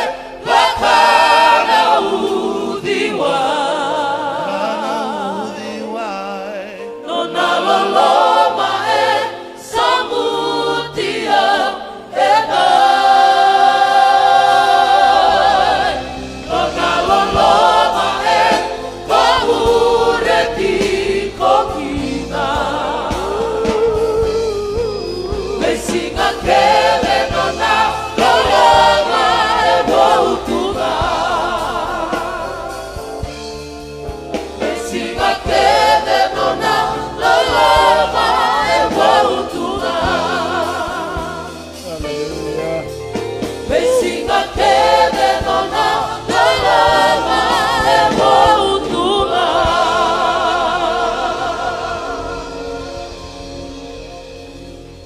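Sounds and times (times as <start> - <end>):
electric keyboard: 0.0 - 55.0
group singing in harmony: 0.0 - 55.0.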